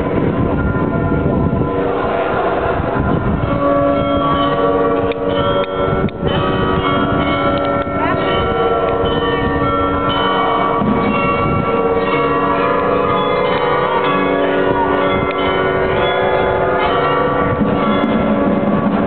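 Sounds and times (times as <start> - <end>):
carillon bells playing a tune: 0.0 - 19.0.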